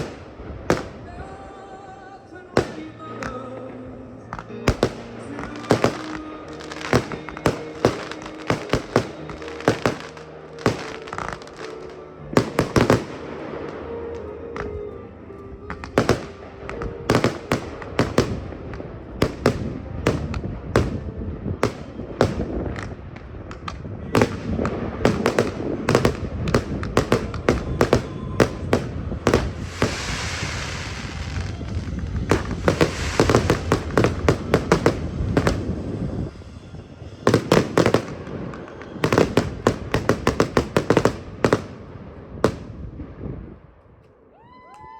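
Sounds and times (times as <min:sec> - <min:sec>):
fireworks bursts and bangs: 0:00.0 - 0:14.9, 0:15.6 - 0:43.3
fireworks hissing crackle: 0:00.0 - 0:43.3.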